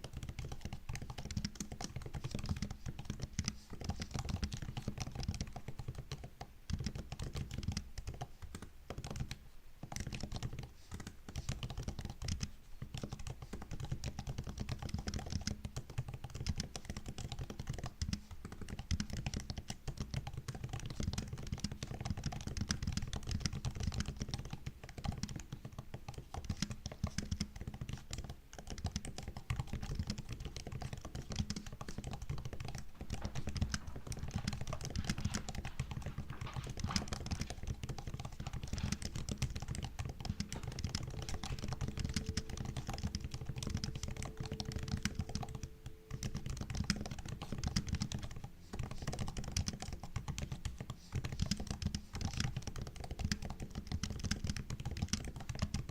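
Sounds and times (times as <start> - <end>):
fast typing on laptop keyboard: 0.0 - 55.9.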